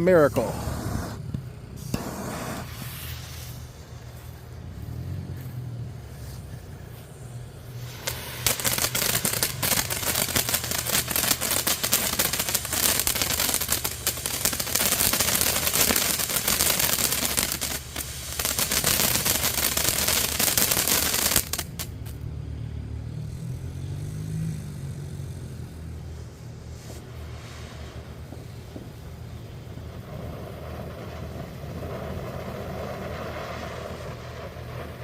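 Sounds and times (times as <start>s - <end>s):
fireworks fountain hissing: 0.0s - 22.2s, 25.5s - 35.0s.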